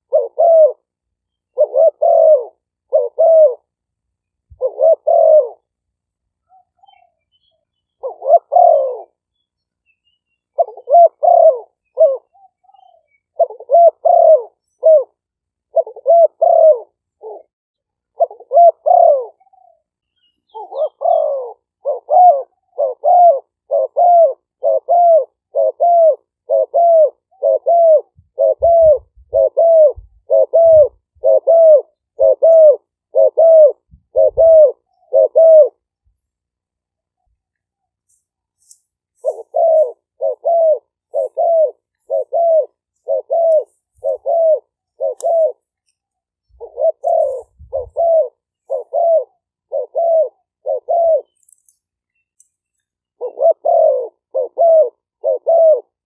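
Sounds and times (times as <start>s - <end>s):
doves cooing: 0.0s - 3.8s, 4.5s - 5.8s, 7.9s - 9.2s, 10.5s - 19.9s, 20.5s - 36.0s, 39.1s - 45.8s, 46.4s - 51.5s, 53.1s - 56.0s.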